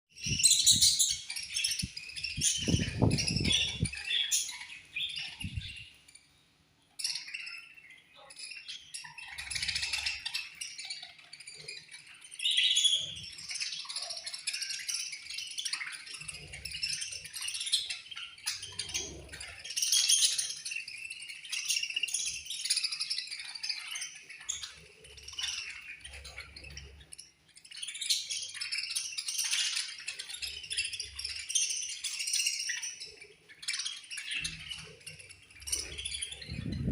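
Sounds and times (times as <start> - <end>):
budgerigars chirping: 0.2 - 36.9.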